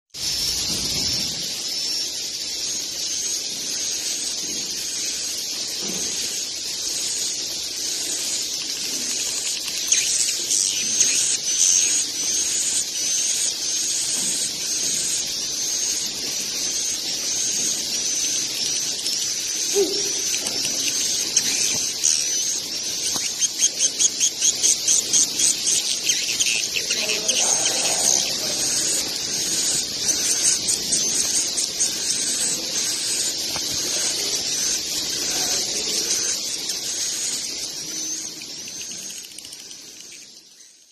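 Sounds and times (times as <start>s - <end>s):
fast clicks: 0.2s - 40.8s
high thin bird chirps: 0.2s - 40.9s.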